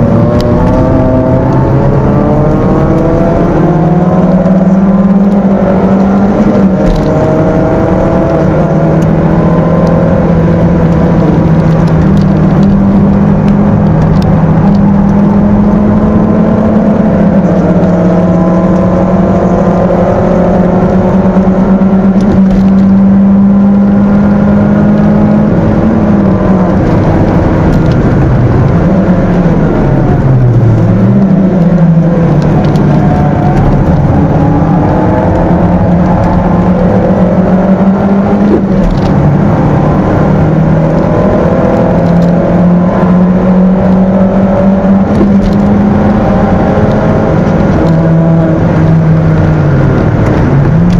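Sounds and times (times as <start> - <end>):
car engine at high revs: 0.0 - 50.9.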